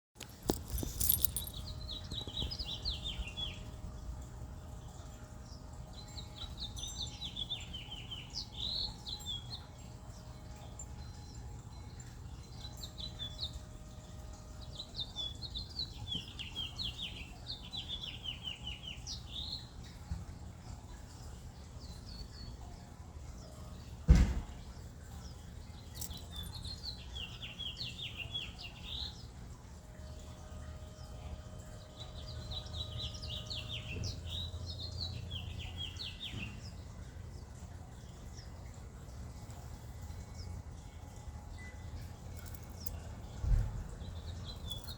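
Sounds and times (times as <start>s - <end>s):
small songbirds singing: 0.2s - 44.9s.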